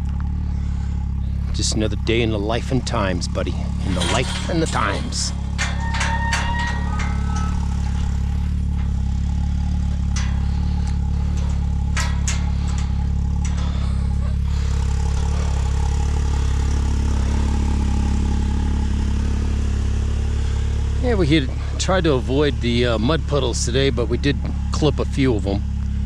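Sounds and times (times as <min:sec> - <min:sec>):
vehicle engine running: 0:00.0 - 0:26.0
sharp clatters: 0:00.2 - 0:22.5.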